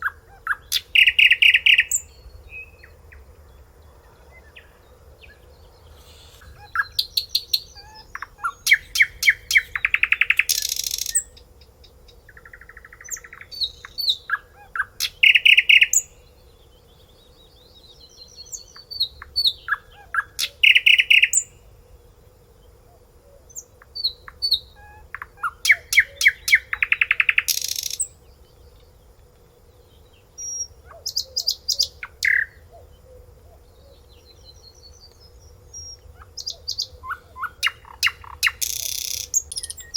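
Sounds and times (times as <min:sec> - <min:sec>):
songbird singing trills and whistles: 0:00.0 - 0:03.2, 0:04.1 - 0:11.4, 0:12.3 - 0:16.2, 0:17.4 - 0:21.6, 0:23.5 - 0:28.1, 0:30.3 - 0:32.9, 0:33.5 - 0:39.9.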